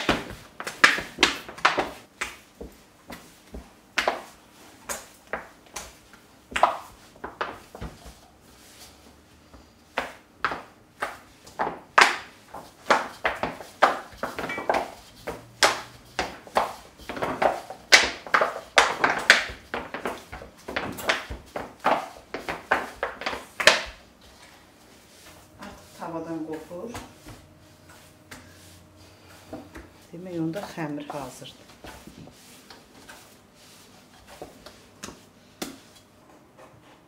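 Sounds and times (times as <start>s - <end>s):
dough slapping in a metal bowl: 0.0s - 9.2s, 9.8s - 36.1s.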